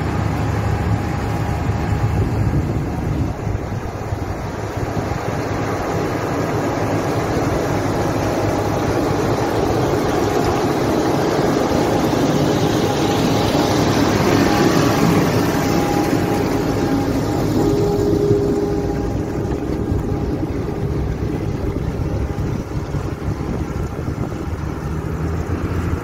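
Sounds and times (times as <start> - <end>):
faint whine: 0.0 - 24.8
heavy diesel machinery running: 0.0 - 26.0.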